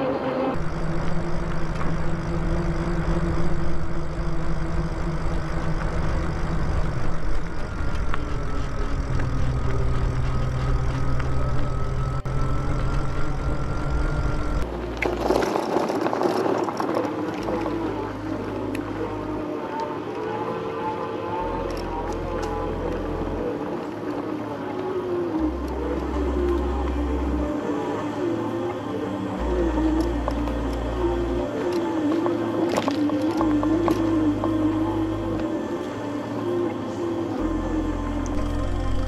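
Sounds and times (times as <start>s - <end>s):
faint steady whine: 0.0s - 39.0s
tyres rolling on trail: 0.0s - 39.0s.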